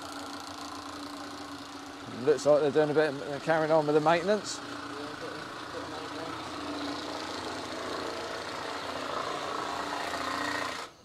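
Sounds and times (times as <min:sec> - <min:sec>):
machinery motor humming: 0:00.0 - 0:11.0.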